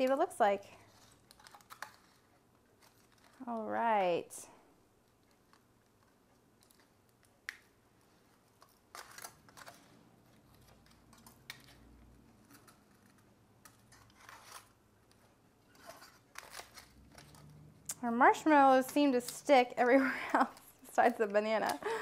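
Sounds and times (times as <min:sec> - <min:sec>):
aluminium foil crinkling: 0:00.0 - 0:04.2, 0:05.0 - 0:22.0.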